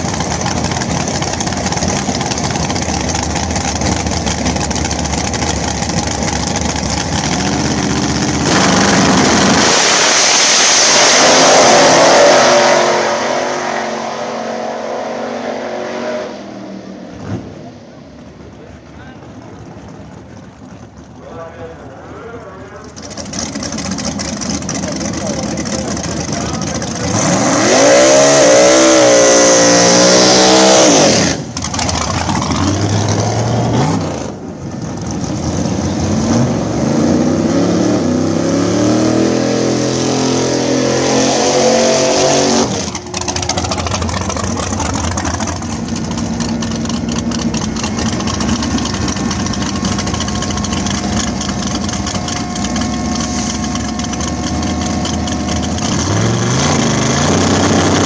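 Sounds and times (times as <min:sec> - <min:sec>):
loud engine running steadily: 0:00.0 - 0:58.0
race car engines revving: 0:00.0 - 0:58.0.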